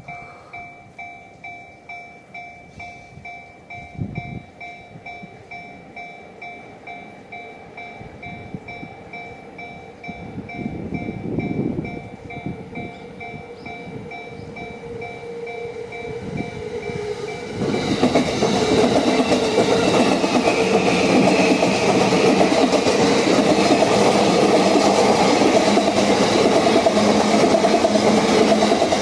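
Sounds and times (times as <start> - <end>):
train wheels rumbling and clacking: 0.0 - 29.0.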